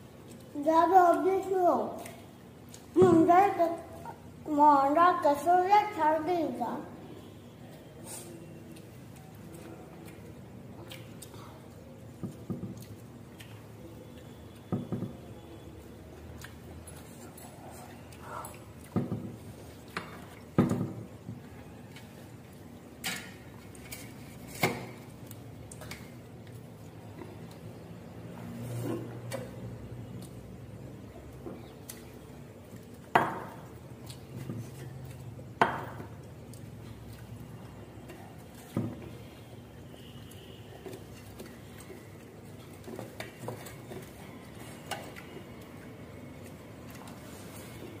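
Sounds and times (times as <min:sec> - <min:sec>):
faint background noise: 0:00.0 - 0:48.0.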